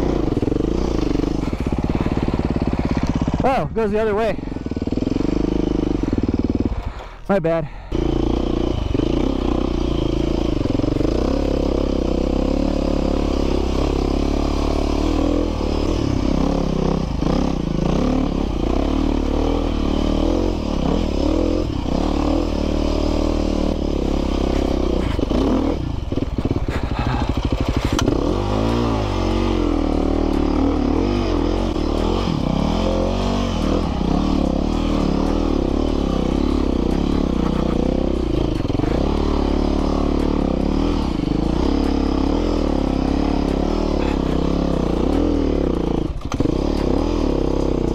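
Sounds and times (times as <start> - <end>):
bike clattering and scraping: 0.0 - 3.4, 8.8 - 47.9
dirt bike engine revving: 0.0 - 47.9.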